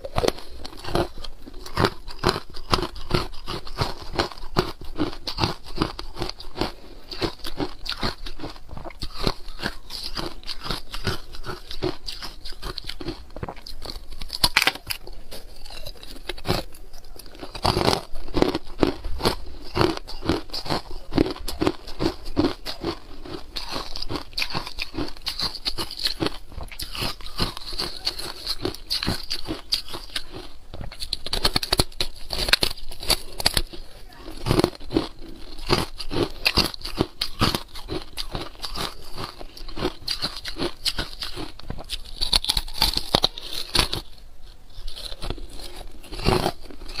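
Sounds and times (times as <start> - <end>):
chewing crunching ice cubes: 0.0 - 47.0.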